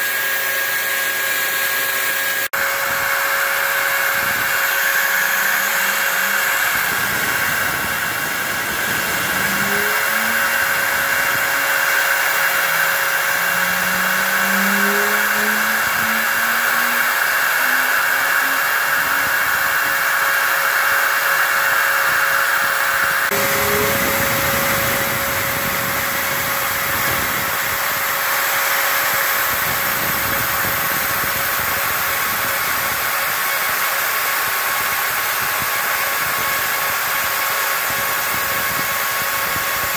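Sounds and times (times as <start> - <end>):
cnc router spindle milling foam: 0.0 - 39.9
dust extraction hose drawing air: 0.0 - 39.9
motors whining: 0.0 - 39.9.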